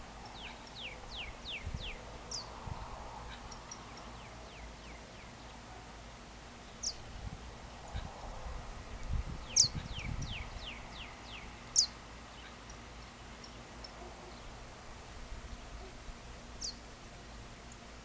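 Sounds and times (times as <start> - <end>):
birds chirping: 0.0 - 6.0, 6.6 - 8.2, 8.9 - 18.0.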